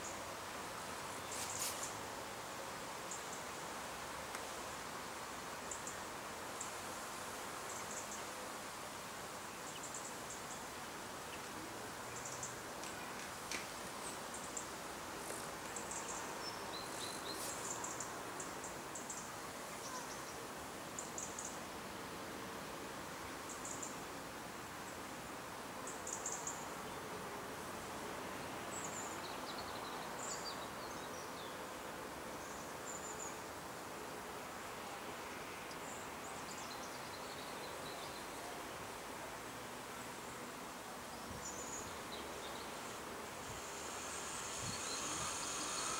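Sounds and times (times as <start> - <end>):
outdoor background hiss: 0.0 - 45.9.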